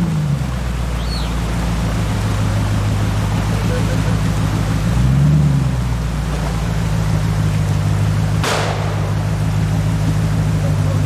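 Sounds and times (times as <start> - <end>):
car engine at low revs: 0.0 - 11.0
water rushing: 0.0 - 11.0.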